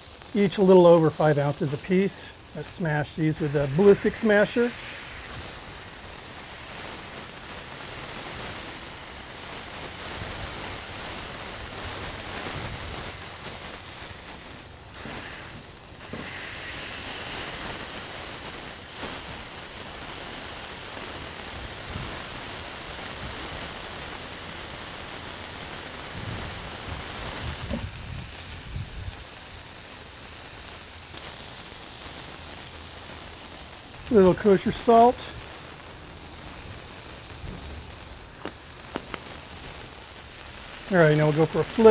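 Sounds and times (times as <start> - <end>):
meat patties sizzling on griddle: 0.0 - 41.9.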